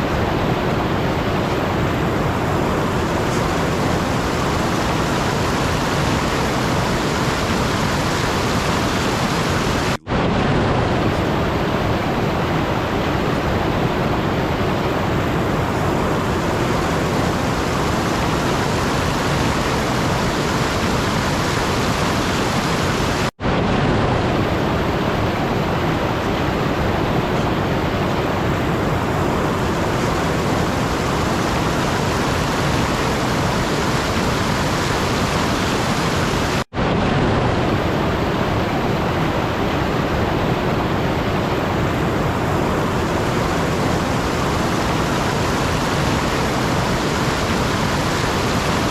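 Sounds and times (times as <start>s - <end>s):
steady rushing noise: 0.0s - 48.9s.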